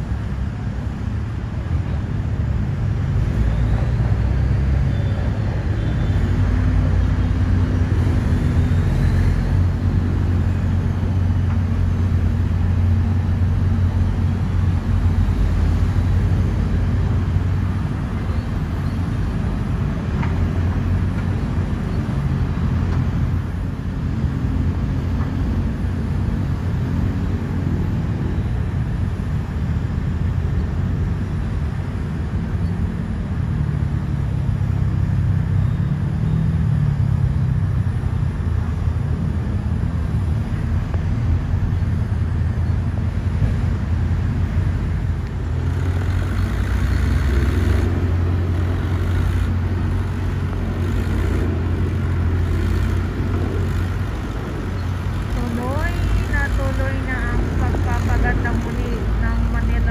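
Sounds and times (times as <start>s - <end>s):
excavator diesel engine rumbling: 0.0s - 59.9s.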